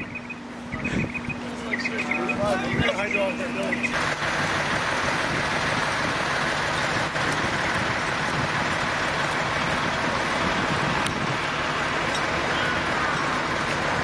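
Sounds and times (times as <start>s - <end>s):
fire engines pumping water: 0.0s - 14.0s.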